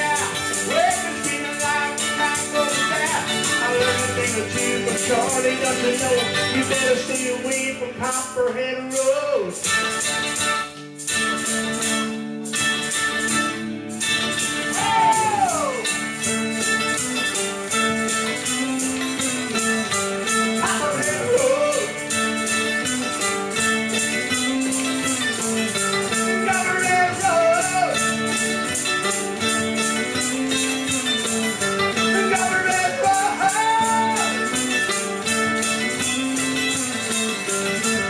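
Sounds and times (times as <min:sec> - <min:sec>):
mandolin and electric guitar: 0:00.0 - 0:38.0.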